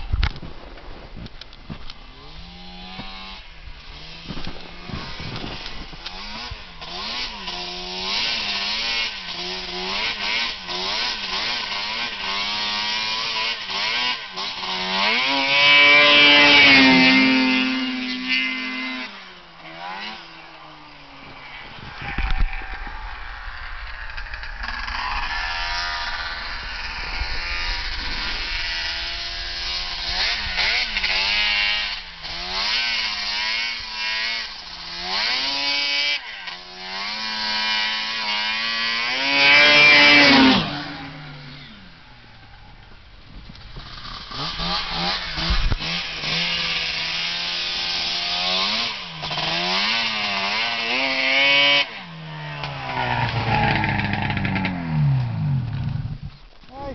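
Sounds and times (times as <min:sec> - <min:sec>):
snowmobile engine idling and revving: 0:00.0 - 0:56.9.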